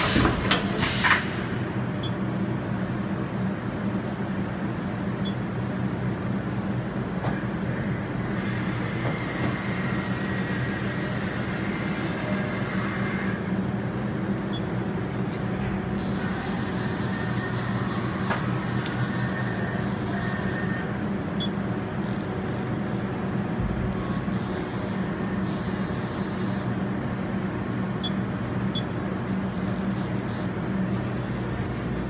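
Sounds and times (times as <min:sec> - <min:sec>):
machinery humming: 0:00.0 - 0:32.0.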